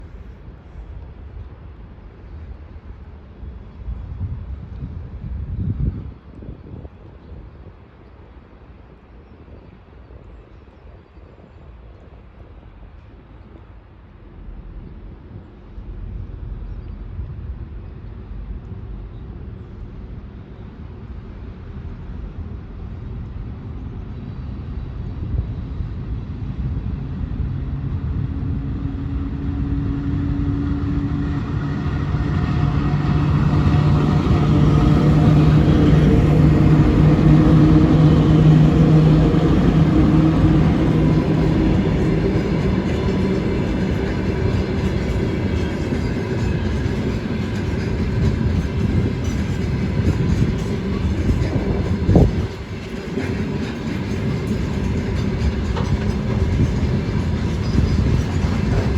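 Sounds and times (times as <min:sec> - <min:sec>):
locomotive low rumble: 0:00.0 - 0:58.9
multi-tone locomotive hum: 0:00.0 - 0:58.9.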